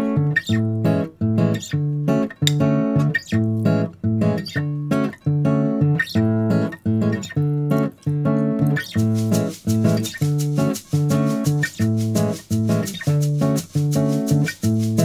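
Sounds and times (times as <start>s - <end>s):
strummed acoustic guitar chords: 0.0s - 15.0s.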